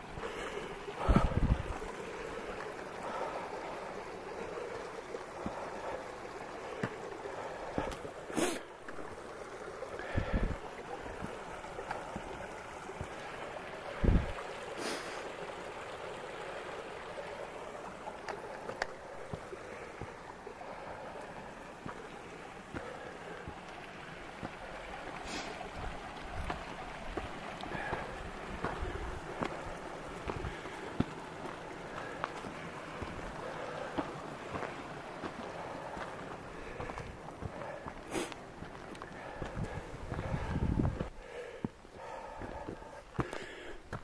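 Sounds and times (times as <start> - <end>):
creek water flowing over rocks: 0.0 - 44.0.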